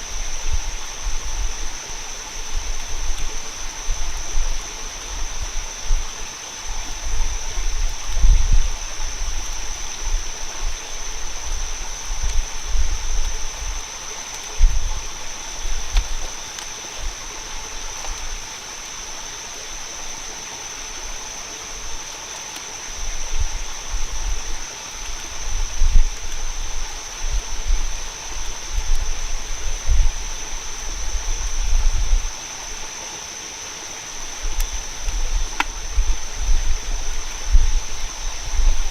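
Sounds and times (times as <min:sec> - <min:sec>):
high-pitched insect drone: 0:00.0 - 0:38.9
steady rushing water: 0:00.0 - 0:38.9.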